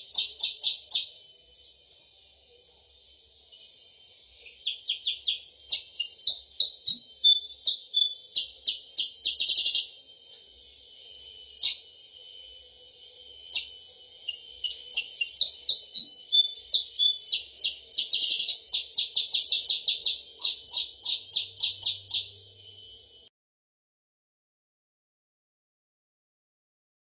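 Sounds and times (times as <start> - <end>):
songbird chirps: 0.0 - 23.2
steady high hiss: 0.0 - 23.3.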